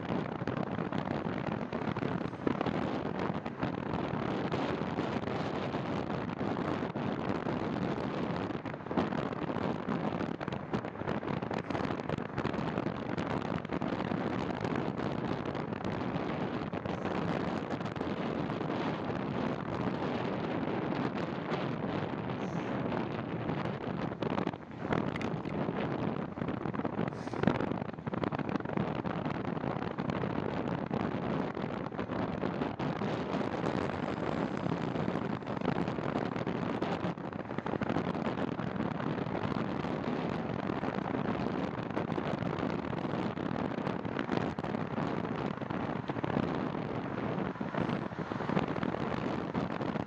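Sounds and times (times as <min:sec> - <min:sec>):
wind over microphone: 0:00.0 - 0:50.0.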